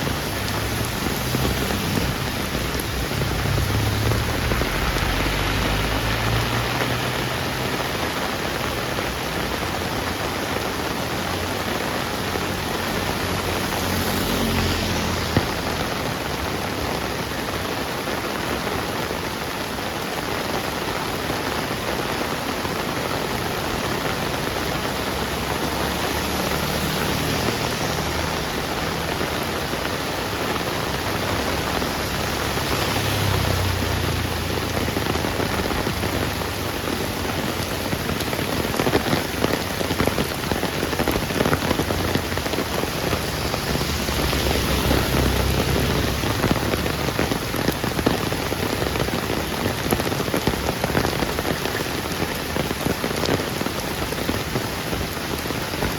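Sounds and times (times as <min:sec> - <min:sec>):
heavy rain on a street: 0:00.0 - 0:55.9.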